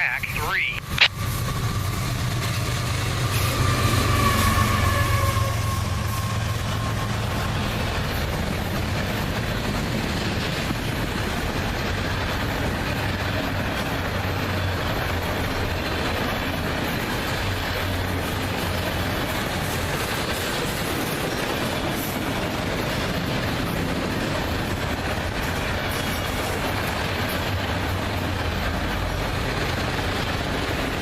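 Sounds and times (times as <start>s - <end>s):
freight train wheels rumbling: 0.7s - 31.0s.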